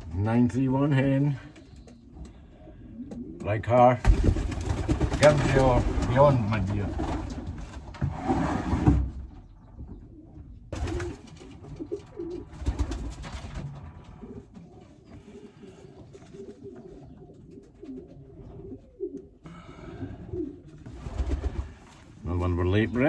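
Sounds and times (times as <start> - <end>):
pigeons cooing: 0.9 - 6.4, 9.2 - 23.0.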